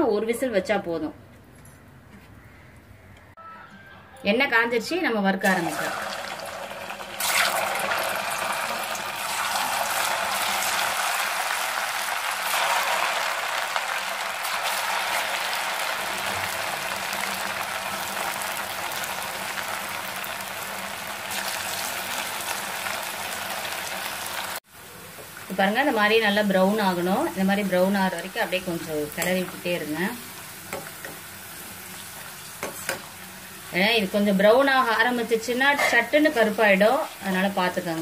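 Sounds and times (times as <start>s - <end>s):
food deep-frying in hot oil: 5.4s - 38.0s.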